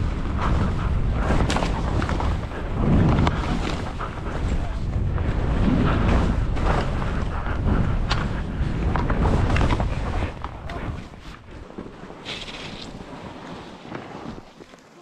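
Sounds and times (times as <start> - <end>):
wind rumbling on microphone: 0.0 - 14.8
skis swishing through snow: 0.0 - 15.0.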